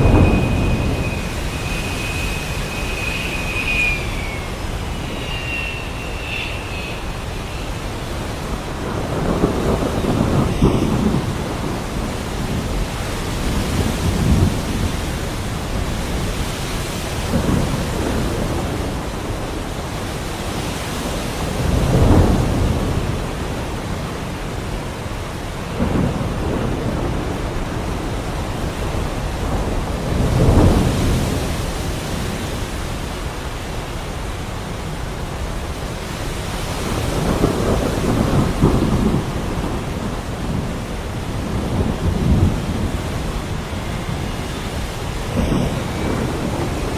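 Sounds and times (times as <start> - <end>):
thunder rumbling low: 0.0 - 20.6, 21.3 - 36.0, 36.8 - 46.9
heavy rain falling: 0.0 - 46.9.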